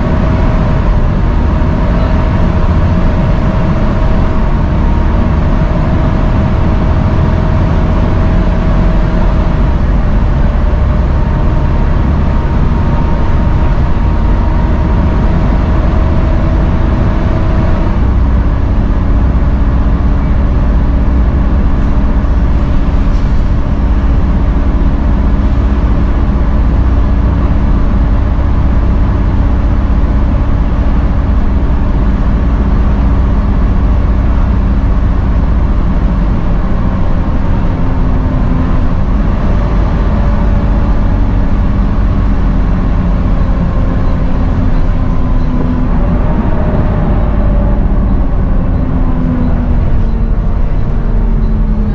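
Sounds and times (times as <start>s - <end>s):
bus engine drone with whine: 0.0s - 51.9s.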